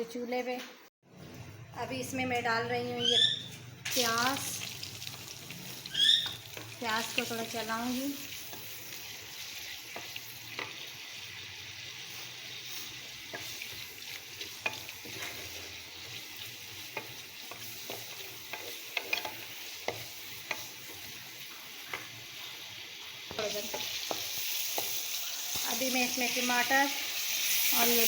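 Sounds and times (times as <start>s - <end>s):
onion sizzling in oil: 3.9s - 28.0s.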